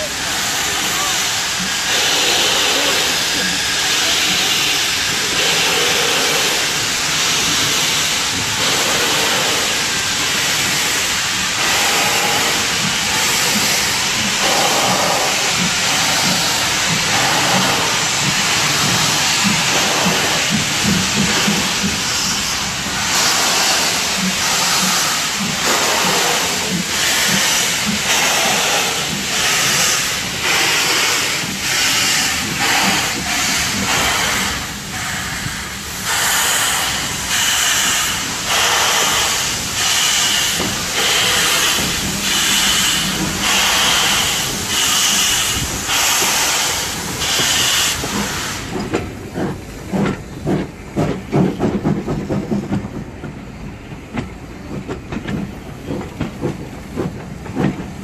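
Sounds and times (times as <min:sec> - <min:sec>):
hiss of steam: 0:00.0 - 0:58.0
steam locomotive exhaust beats: 0:00.0 - 0:58.0.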